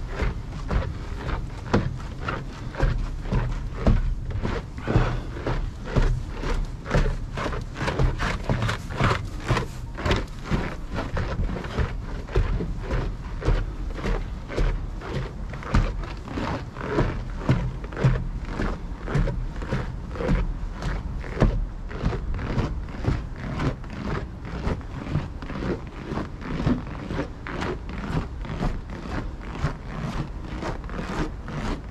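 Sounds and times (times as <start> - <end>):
footsteps on snowy path: 0.0 - 31.9
footsteps on wooden steps: 0.0 - 31.9
steady low rumble: 0.0 - 31.9.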